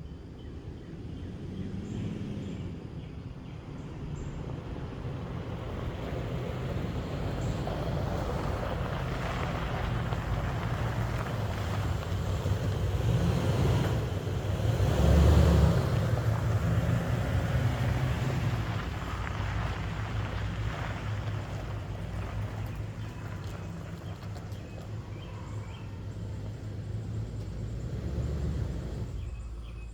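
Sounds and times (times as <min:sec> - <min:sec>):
vehicle engine running: 0:00.8 - 0:29.9.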